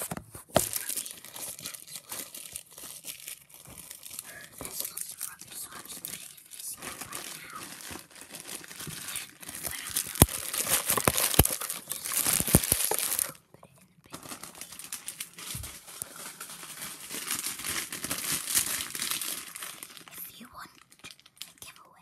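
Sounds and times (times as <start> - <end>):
plastic wrapper crinkling: 0.0 - 13.4, 14.1 - 21.8.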